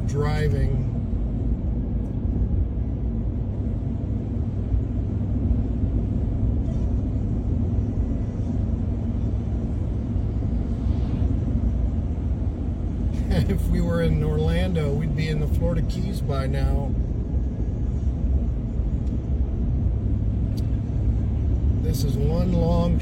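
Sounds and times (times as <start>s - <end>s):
truck engine and tyres rumbling: 0.0s - 23.0s.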